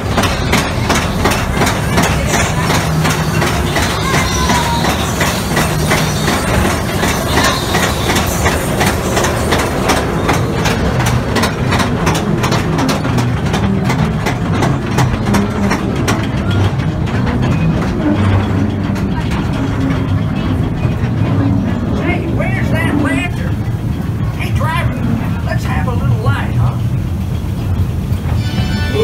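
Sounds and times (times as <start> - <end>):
ride cars rumbling on track: 0.0 - 29.0
wheels clattering over rails: 0.0 - 29.0.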